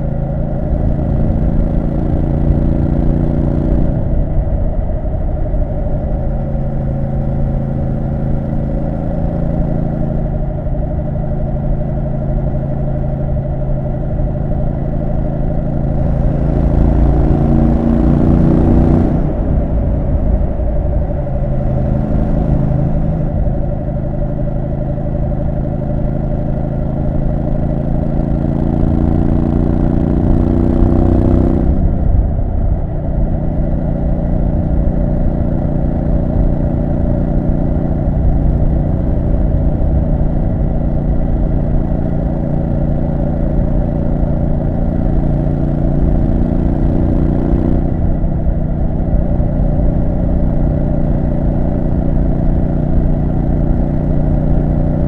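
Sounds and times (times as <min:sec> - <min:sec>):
low wind rumble: 0:00.0 - 0:55.0
motorcycle engine revving: 0:00.0 - 0:55.0.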